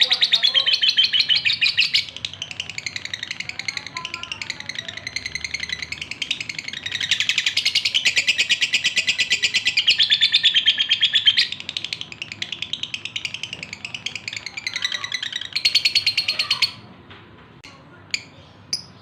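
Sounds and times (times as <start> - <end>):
lovebird chattering high chirps: 0.0 - 16.8, 18.1 - 19.0.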